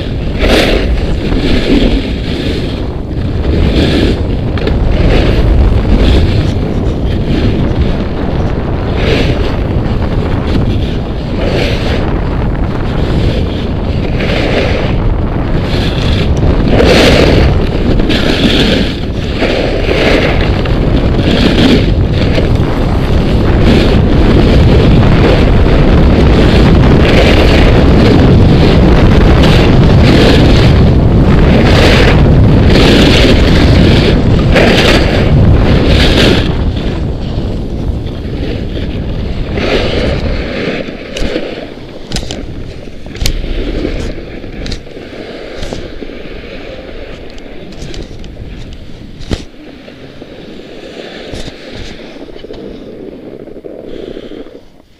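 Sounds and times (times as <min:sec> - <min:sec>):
snowboard scraping on snow: 0:00.0 - 0:54.9
wind buffeting microphone: 0:00.0 - 0:54.9.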